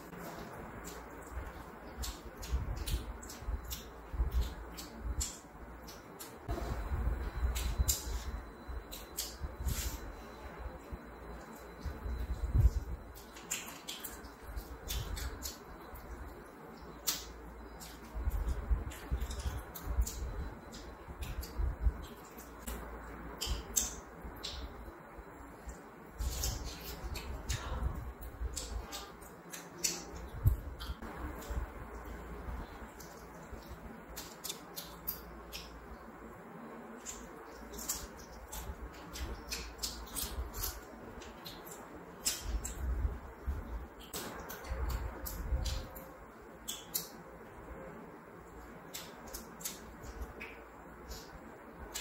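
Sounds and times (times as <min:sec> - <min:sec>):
mouth clicks and lip smacks chewing: 0:00.3 - 0:06.5, 0:07.2 - 0:24.9, 0:25.6 - 0:36.0, 0:37.0 - 0:47.2, 0:48.5 - 0:52.0.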